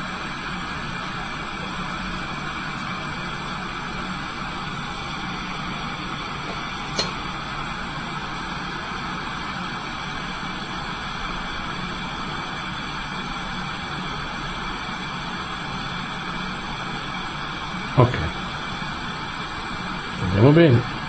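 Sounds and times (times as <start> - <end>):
torch hissing: 0.0 - 21.0.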